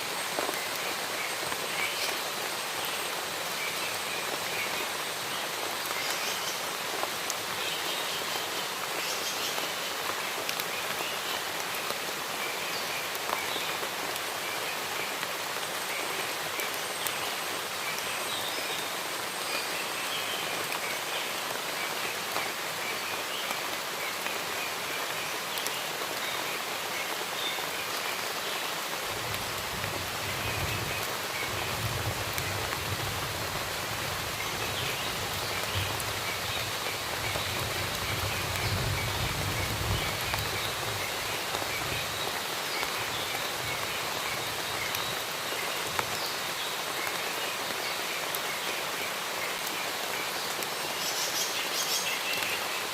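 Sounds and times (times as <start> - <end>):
rain falling in forest: 0.0 - 52.9.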